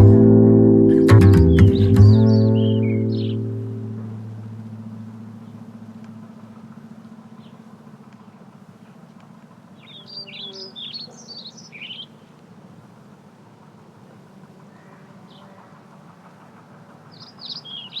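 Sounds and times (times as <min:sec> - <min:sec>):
songbird chirping: 0:00.0 - 0:18.0
faint steady low hum: 0:02.1 - 0:18.0.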